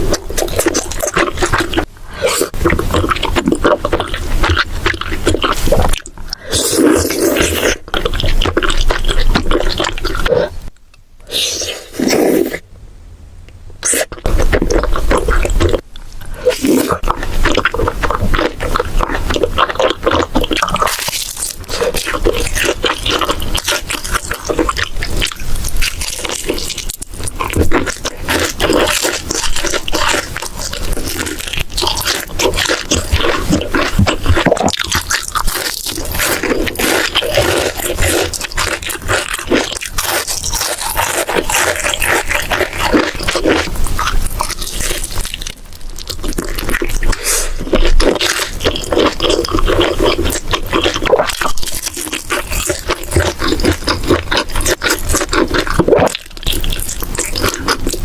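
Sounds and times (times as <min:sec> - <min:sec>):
crunchy chewing: 0:00.0 - 0:12.6, 0:13.8 - 0:58.0.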